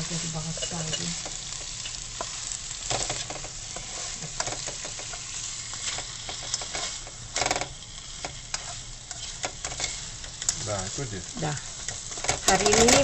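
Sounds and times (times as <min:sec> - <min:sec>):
spatula scraping a pan: 0:00.0 - 0:11.1, 0:11.7 - 0:13.0
prawns sizzling in a wok: 0:00.0 - 0:13.0.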